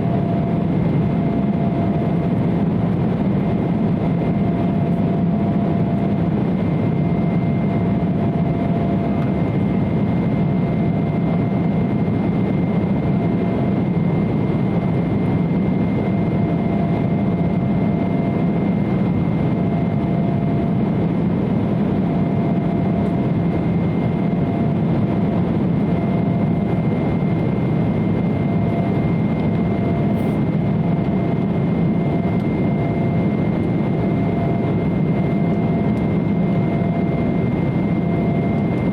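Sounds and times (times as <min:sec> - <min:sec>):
airflow rush in cabin: 0:00.0 - 0:38.9
low hum of jet engines: 0:00.0 - 0:38.9.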